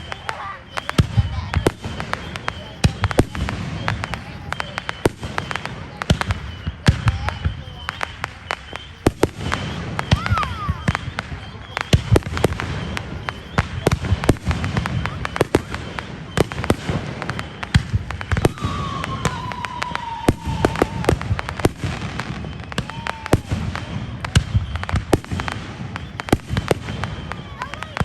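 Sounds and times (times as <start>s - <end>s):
firework whistle sliding down: 0.0s - 28.0s
fireworks bangs and crackles: 0.0s - 28.0s.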